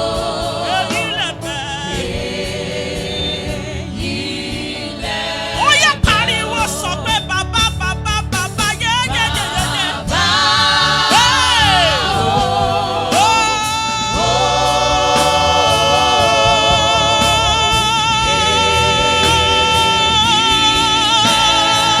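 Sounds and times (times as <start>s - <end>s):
gospel group singing: 0.0s - 22.0s
instrumental backing: 0.0s - 22.0s.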